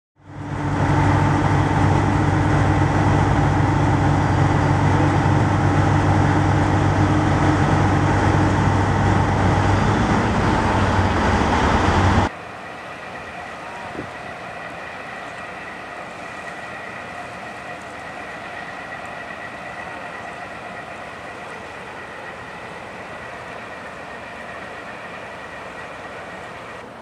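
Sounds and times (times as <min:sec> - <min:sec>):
churning propeller wash: 0:00.2 - 0:27.0
diesel engines droning: 0:00.2 - 0:27.0.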